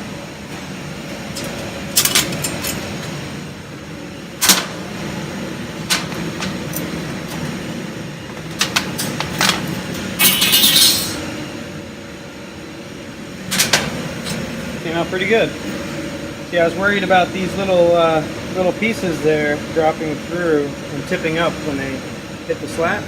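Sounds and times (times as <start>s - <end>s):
laser cutting machine humming: 0.0s - 23.0s.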